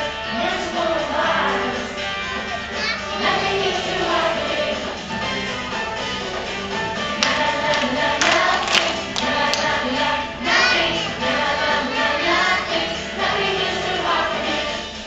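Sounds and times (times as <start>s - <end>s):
children singing: 0.0s - 5.6s, 6.9s - 15.0s.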